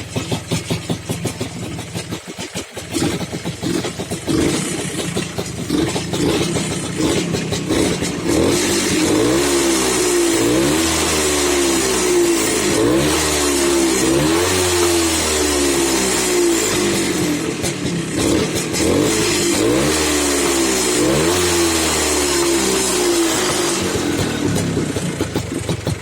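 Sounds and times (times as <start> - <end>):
engine revving: 0.0 - 26.0.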